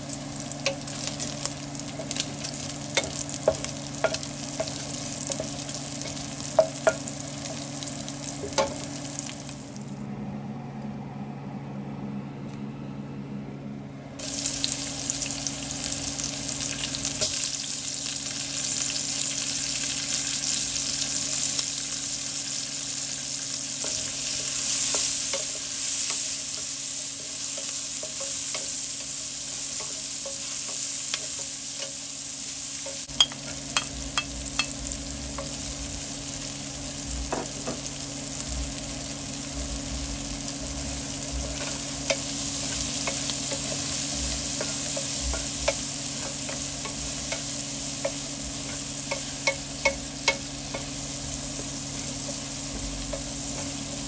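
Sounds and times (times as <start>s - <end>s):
meat sizzling in a pan: 0.0s - 9.8s, 14.2s - 54.0s
onion frying: 0.0s - 10.0s, 14.2s - 54.0s.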